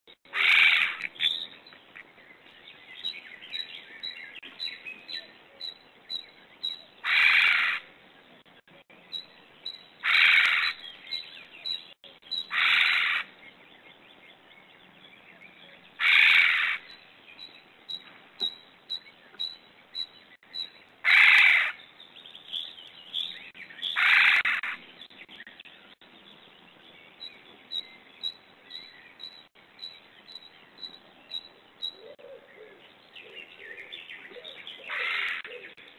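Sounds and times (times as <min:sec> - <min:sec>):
small birds chirping: 0:00.1 - 0:35.9.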